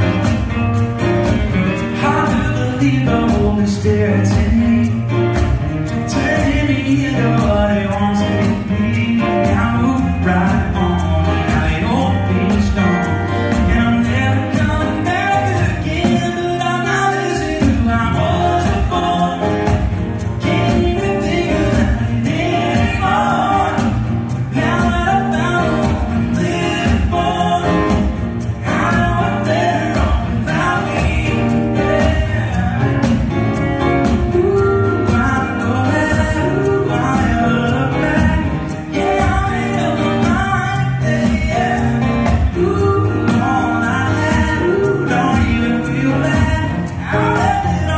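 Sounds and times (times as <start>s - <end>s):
acoustic guitars strumming: 0.0s - 47.9s
man singing: 1.2s - 47.9s.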